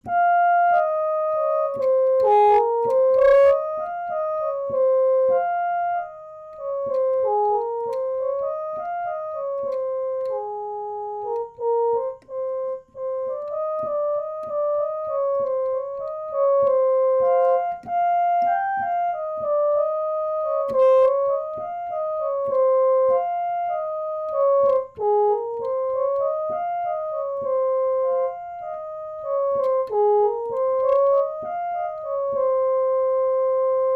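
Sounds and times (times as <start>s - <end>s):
electronic keyboard melody: 0.0s - 33.9s.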